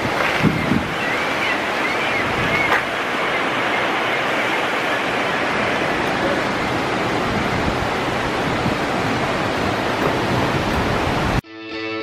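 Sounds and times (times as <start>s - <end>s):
river water rushing over rocks: 0.0s - 11.4s.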